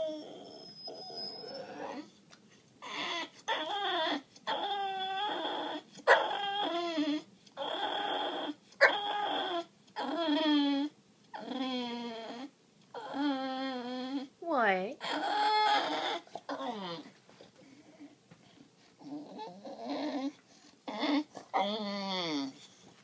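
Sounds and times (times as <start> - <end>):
dog whining and crying: 0.0 - 2.2, 2.8 - 14.4, 15.0 - 18.2, 19.0 - 23.0.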